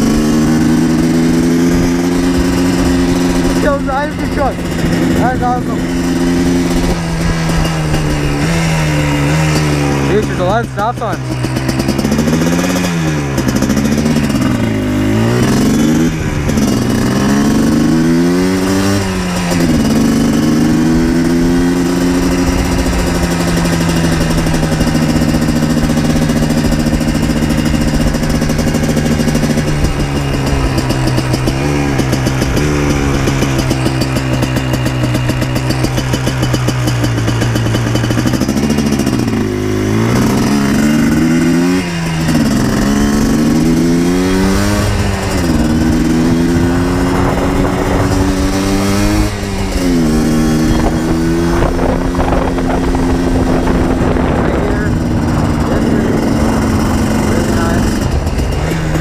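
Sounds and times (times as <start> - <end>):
two-stroke engine revving: 0.0 - 59.0.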